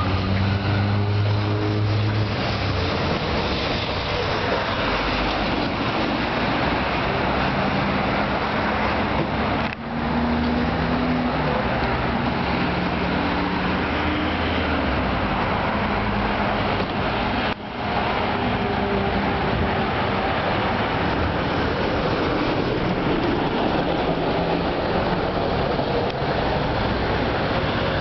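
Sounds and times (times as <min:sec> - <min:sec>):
electric tram humming: 0:00.0 - 0:28.0
street noise: 0:00.0 - 0:28.0.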